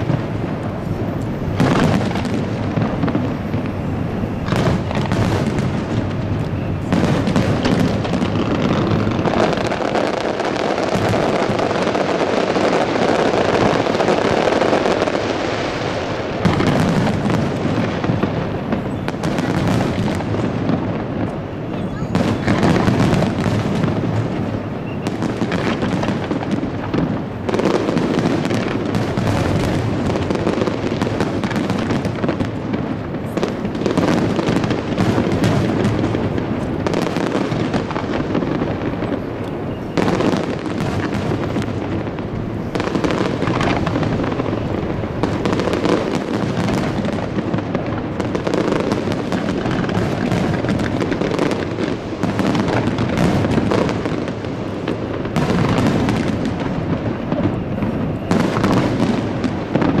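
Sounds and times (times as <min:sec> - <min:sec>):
fireworks bursting: 0:00.0 - 1:00.0
sharp firework reports: 0:00.0 - 1:00.0.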